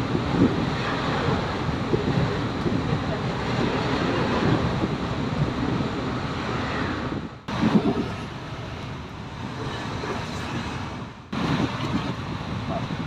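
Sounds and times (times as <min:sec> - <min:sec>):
train rumbling and clattering on rails: 0:00.0 - 0:13.0.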